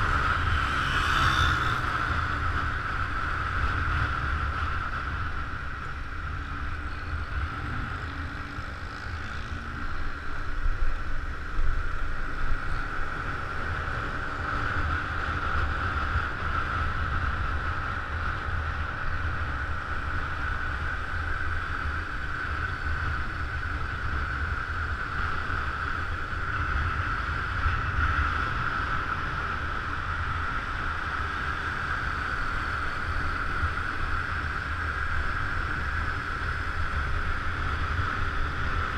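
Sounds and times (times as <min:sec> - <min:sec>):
faint scooter engine: 0:00.0 - 0:38.9.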